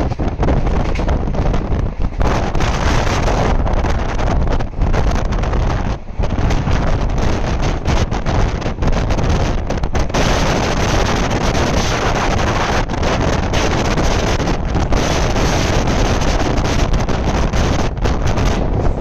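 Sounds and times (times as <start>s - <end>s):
moving train running noise: 0.0s - 19.0s
wind buffeting the microphone: 0.0s - 19.0s.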